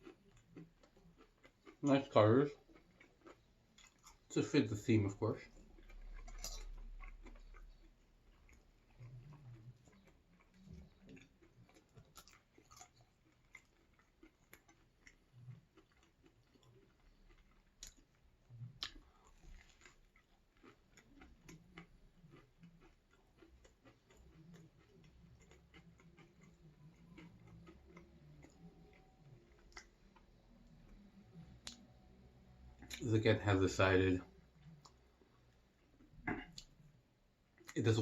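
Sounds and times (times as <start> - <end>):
person chewing: 0.0 - 32.0, 34.5 - 36.9.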